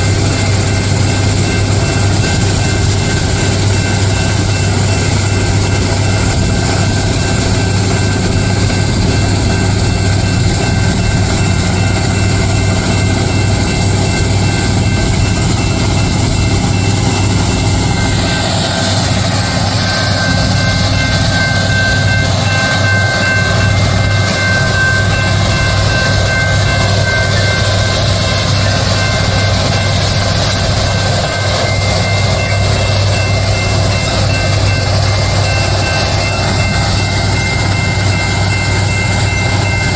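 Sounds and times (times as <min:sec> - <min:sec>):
diesel machinery drone: 0:00.0 - 0:39.9
high machinery whines: 0:00.0 - 0:39.9.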